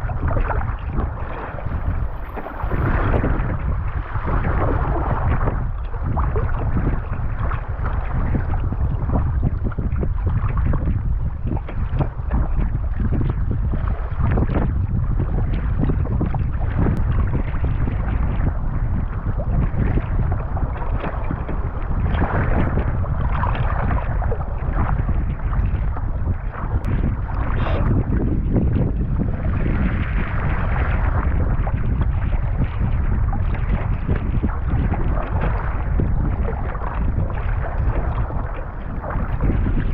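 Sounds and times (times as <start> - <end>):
water sloshing and splashing: 0.0 - 39.9
wind buffeting microphone: 0.0 - 39.9.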